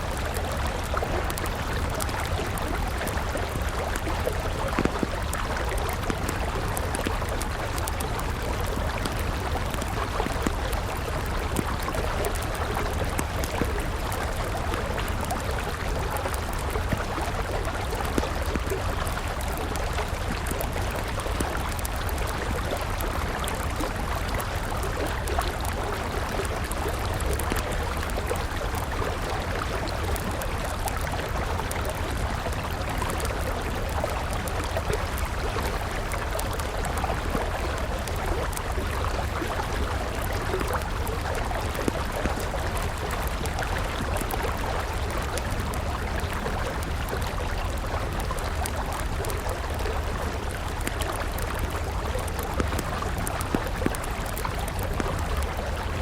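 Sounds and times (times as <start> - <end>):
campfire crackling: 0.0 - 56.0
river water flowing: 0.0 - 56.0.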